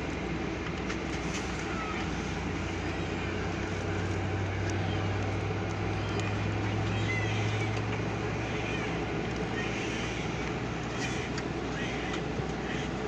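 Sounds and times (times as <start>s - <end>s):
airliner cabin rumble and hiss: 0.0s - 13.0s
low steady hum: 0.0s - 13.0s.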